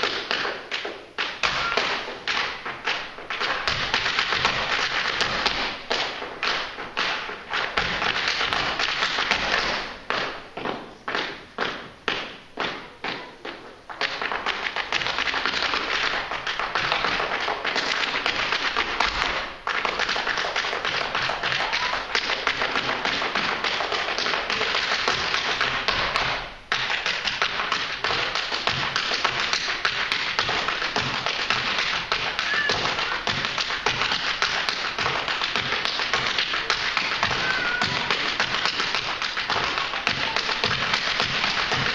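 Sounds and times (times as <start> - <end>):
hard shoes beating on wooden stage: 0.0 - 41.9.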